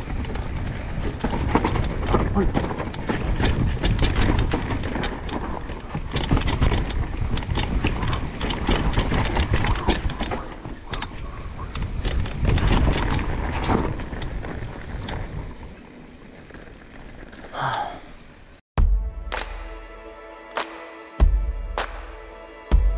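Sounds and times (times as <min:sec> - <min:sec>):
bike rattling over rocks: 0:00.0 - 0:18.6.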